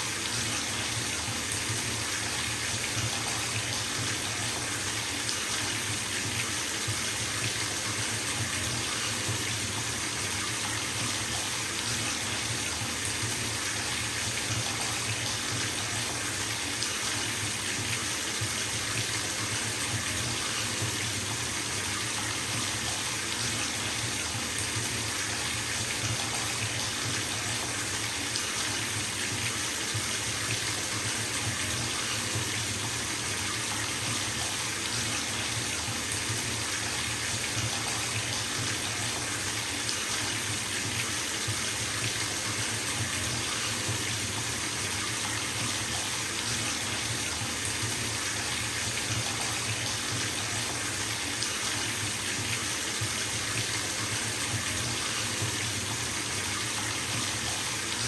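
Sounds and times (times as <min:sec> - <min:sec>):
tap running into bathtub: 0:00.3 - 0:58.0.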